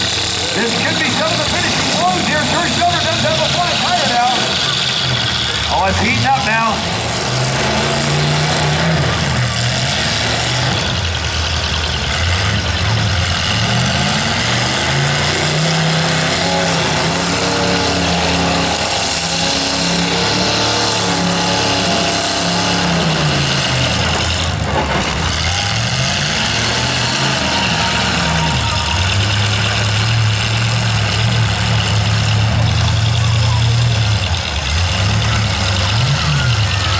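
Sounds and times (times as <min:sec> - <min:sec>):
truck engines revving: 0:00.0 - 0:36.9.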